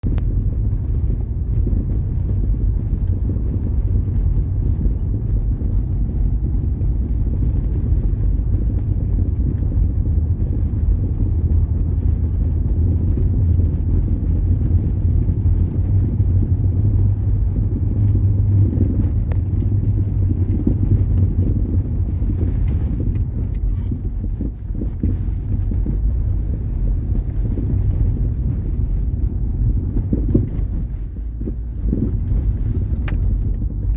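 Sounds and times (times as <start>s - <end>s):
car road rumble: 0.0s - 33.9s
suspension rattle: 0.0s - 33.9s.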